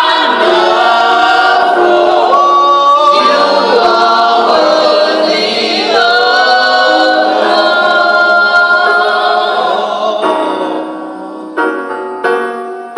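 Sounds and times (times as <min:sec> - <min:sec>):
choir singing a cappella: 0:00.0 - 0:11.6.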